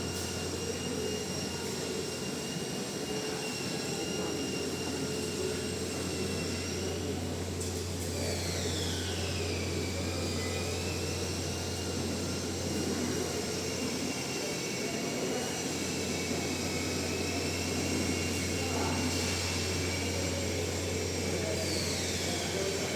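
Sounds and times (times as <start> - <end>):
lathe motor hum and whine: 0.0 - 22.9.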